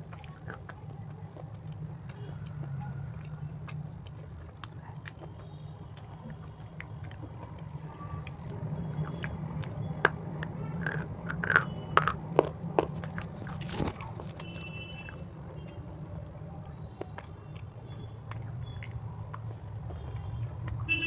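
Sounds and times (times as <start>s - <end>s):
crunching and chewing snack: 0.0s - 21.0s.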